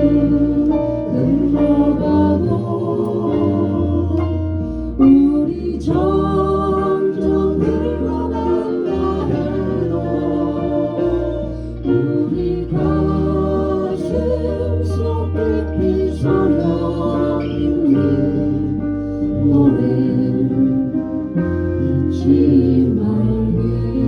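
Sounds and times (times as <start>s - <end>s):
bass line: 0.0s - 24.0s
guitar: 0.0s - 24.0s
person singing: 0.0s - 24.0s.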